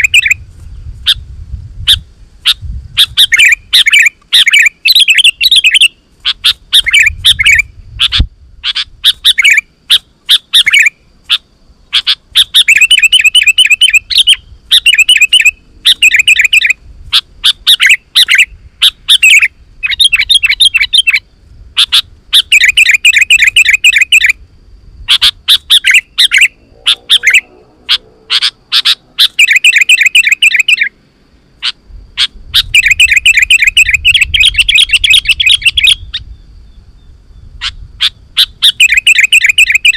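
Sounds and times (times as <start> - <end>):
bulbul chattering call: 0.0 - 0.4, 1.9 - 21.2, 21.8 - 24.4, 25.1 - 31.0, 31.6 - 36.3, 37.6 - 39.9.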